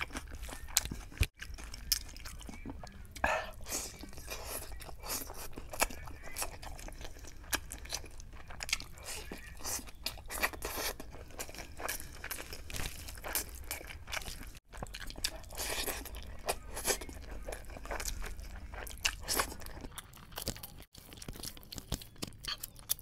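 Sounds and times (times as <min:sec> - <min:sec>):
open-mouthed chewing and lip-smacking: 0:00.0 - 0:23.0.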